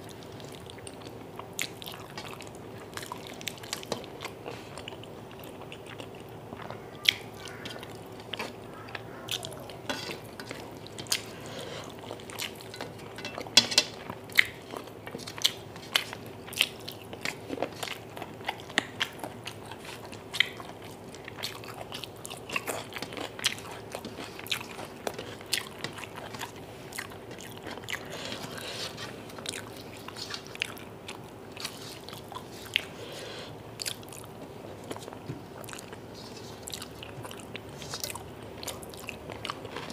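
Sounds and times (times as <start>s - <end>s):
faint steady hum: 0.0s - 39.9s
person chewing food: 0.0s - 39.9s.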